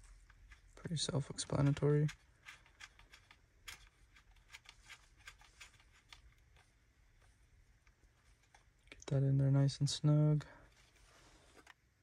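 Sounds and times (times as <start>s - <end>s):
faint cable clicks and rustling: 0.0s - 12.0s.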